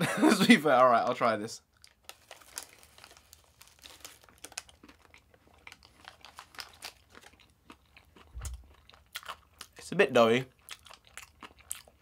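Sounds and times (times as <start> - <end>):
chewing sticky doughnut: 1.7 - 12.0.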